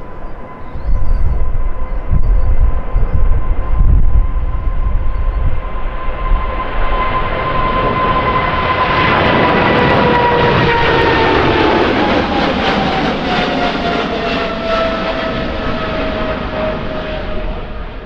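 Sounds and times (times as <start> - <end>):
jet airliner engines whining: 0.0 - 18.0
wind buffeting microphone: 0.0 - 18.0.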